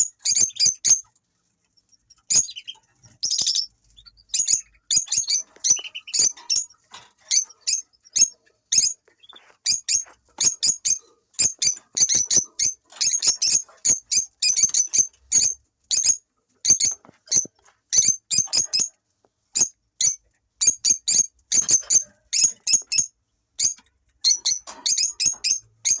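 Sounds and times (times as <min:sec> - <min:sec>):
lovebirds chirping: 0:00.0 - 0:01.1, 0:01.7 - 0:18.9, 0:19.6 - 0:26.0.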